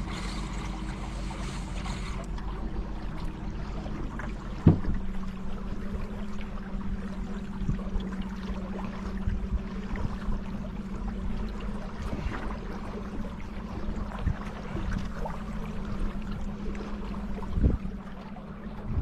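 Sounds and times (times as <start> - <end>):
steady low hum: 0.0 - 19.0
water splashing and lapping: 0.0 - 19.0.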